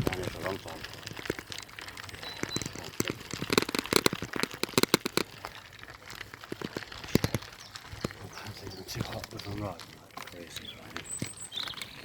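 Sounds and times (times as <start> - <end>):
bicycle clattering over rough track: 0.0 - 12.0.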